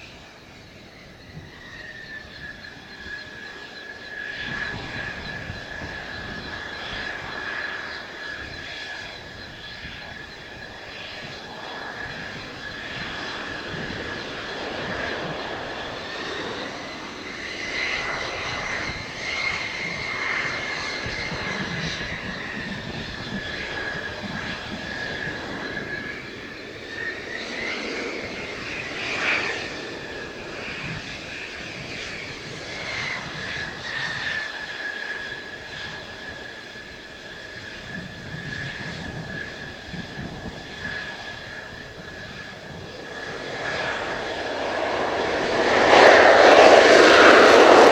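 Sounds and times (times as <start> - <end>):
jet engine whine: 0.0 - 47.9.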